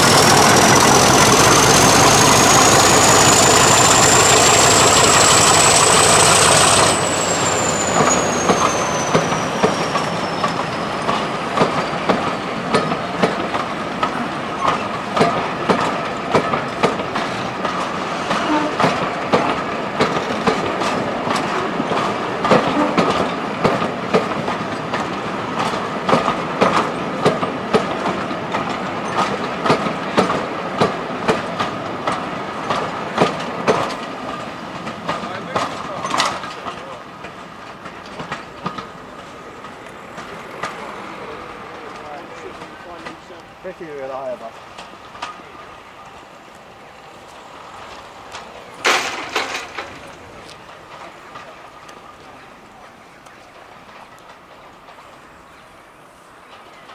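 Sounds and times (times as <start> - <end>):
train wheels clicking on rails: 0.0 - 56.9.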